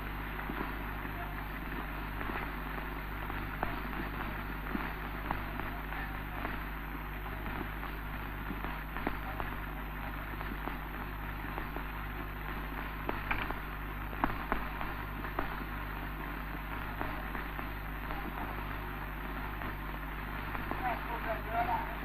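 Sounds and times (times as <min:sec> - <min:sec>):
crackles and pops: 0:00.0 - 0:22.0
film soundtrack hiss and hum: 0:00.0 - 0:22.0.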